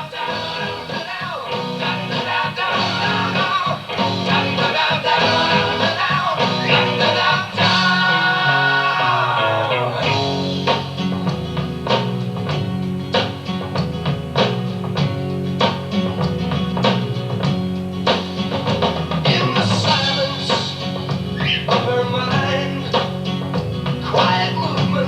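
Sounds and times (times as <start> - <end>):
lead guitar: 0.0 - 25.0
rock band instrumental: 0.0 - 25.0.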